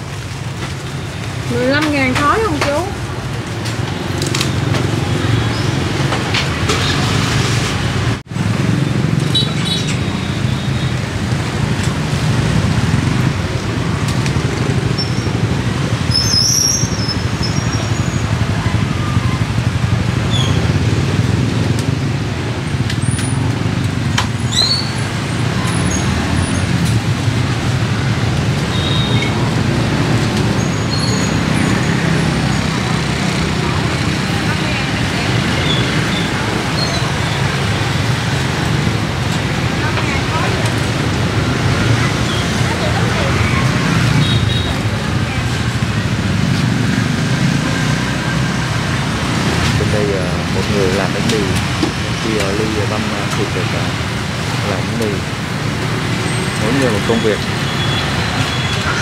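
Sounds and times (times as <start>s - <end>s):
traffic engine rumble: 0.0s - 59.0s.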